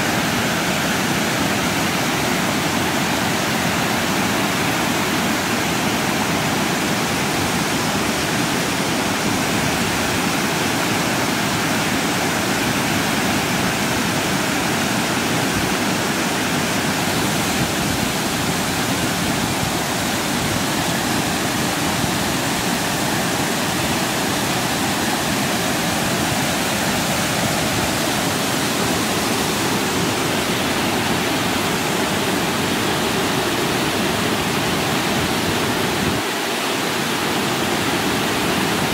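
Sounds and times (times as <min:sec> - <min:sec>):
water rushing over weir: 0:00.0 - 0:38.9.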